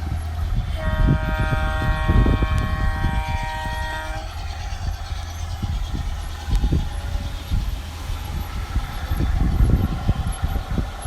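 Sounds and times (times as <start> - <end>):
low rumble of running train: 0.0 - 11.0
model train multi-tone horn: 0.0 - 11.0.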